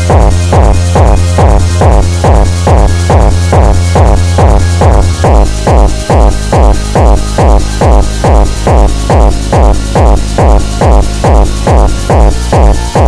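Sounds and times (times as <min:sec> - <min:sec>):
electronic dance music: 0:00.0 - 0:13.0
pulsing synth chords: 0:00.0 - 0:13.0
steady kick drum: 0:00.0 - 0:13.0.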